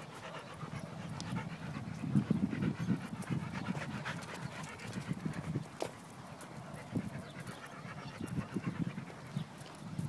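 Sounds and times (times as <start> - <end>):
dogs panting: 0.0 - 10.0.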